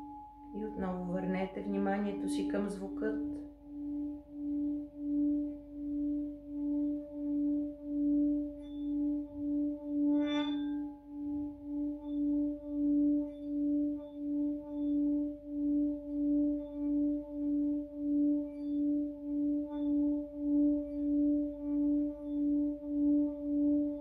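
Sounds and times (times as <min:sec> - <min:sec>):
singing bowl ringing: 0:00.0 - 0:24.0.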